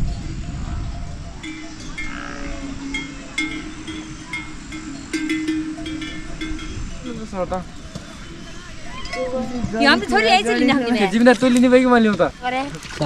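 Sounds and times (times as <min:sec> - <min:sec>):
low steady tone: 0:00.0 - 0:11.2
livestock bells clinking: 0:00.0 - 0:11.8.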